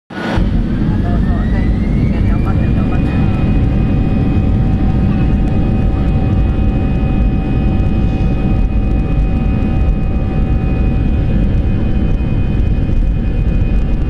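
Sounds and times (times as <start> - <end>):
high-pitched engine whine: 0.1 - 14.0
jet engines roaring: 0.1 - 14.0.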